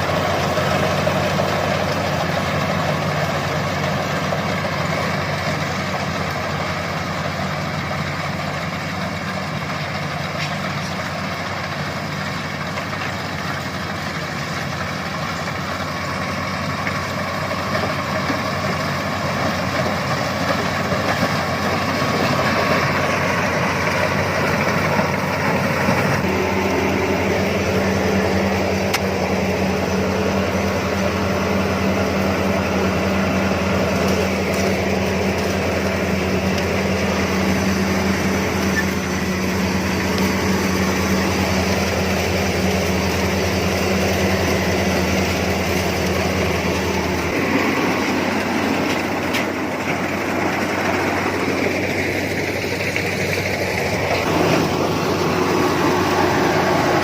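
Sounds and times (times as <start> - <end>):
harvester engine drone: 0.0 - 57.0.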